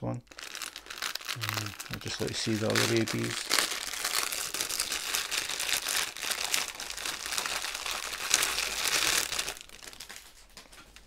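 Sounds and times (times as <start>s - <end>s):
plastic bag crinkling: 0.2s - 11.0s.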